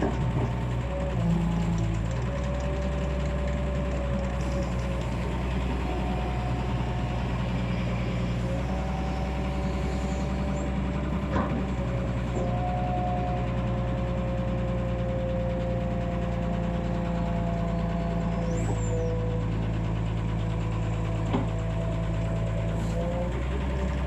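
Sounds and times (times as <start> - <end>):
excavator diesel engine running: 0.0 - 24.0
whining tone: 0.0 - 24.0.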